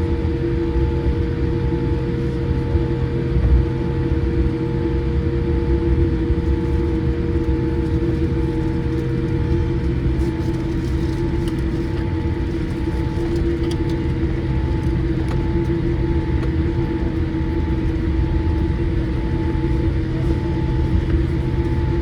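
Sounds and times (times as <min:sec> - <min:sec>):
aircraft cabin rumble: 0:00.0 - 0:22.0
constant tonal hum: 0:00.0 - 0:22.0.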